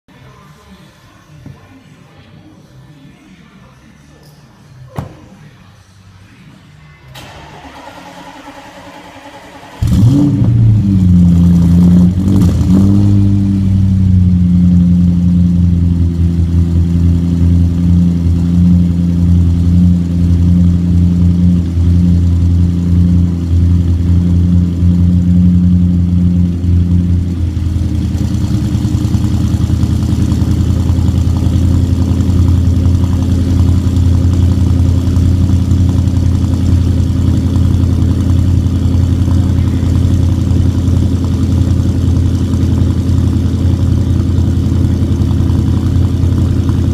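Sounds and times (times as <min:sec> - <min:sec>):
car engine cold start and idle: 0:06.2 - 0:46.9.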